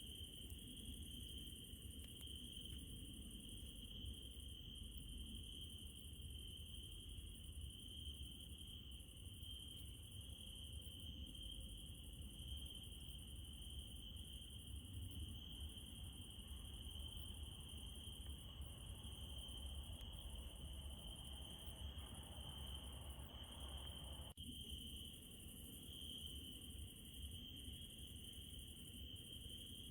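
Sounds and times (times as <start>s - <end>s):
crickets chirping: 0.0s - 29.9s.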